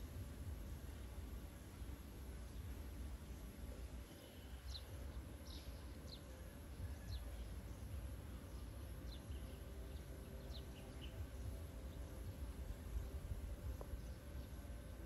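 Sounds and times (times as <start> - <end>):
faint low rumble: 0.0 - 15.0
small birds chirping: 0.0 - 15.0.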